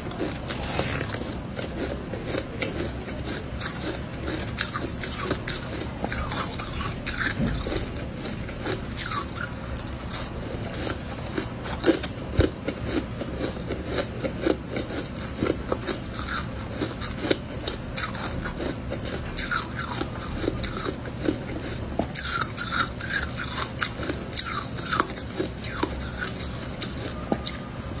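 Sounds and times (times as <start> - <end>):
chewing crunchy ice: 0.0 - 28.0.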